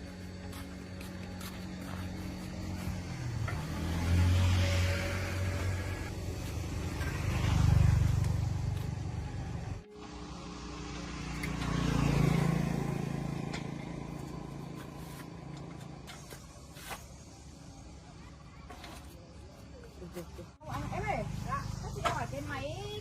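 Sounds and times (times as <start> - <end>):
vehicles passing by: 0.0 - 23.0.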